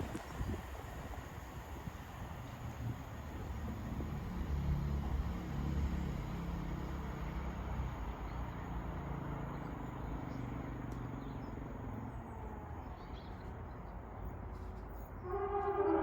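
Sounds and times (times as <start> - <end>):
train rumbling past: 0.0 - 13.5, 14.1 - 16.0.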